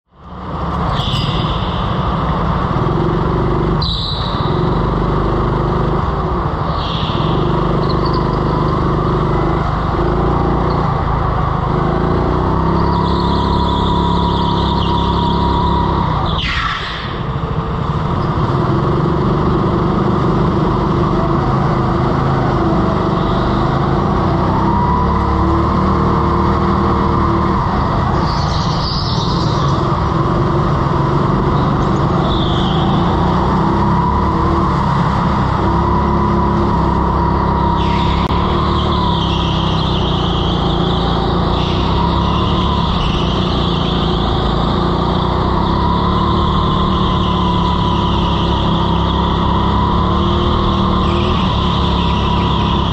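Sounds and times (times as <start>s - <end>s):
go-kart engine running hard: 0.2s - 52.9s.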